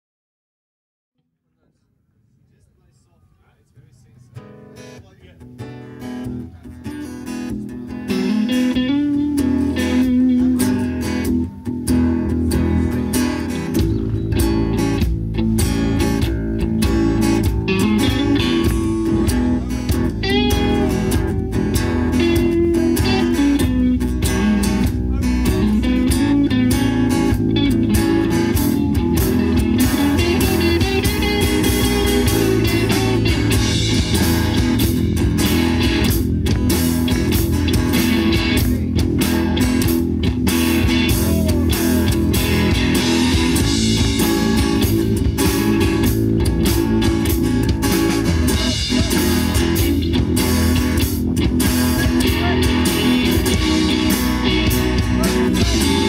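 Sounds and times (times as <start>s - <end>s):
live rock band playing: 4.4s - 56.0s
drum kit: 5.7s - 56.0s.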